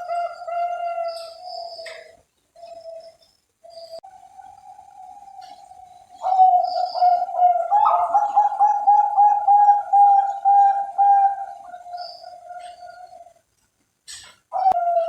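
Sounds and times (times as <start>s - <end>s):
dove cooing: 0.0s - 13.5s, 14.2s - 15.0s.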